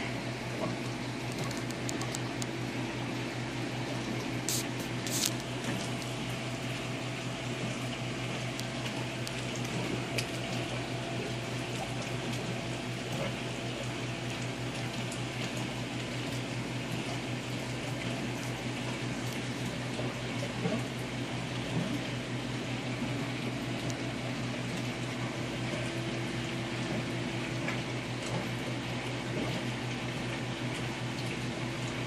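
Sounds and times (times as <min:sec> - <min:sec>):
low steady hum: 0:00.0 - 0:32.0
water bubbling into tank: 0:00.0 - 0:32.0.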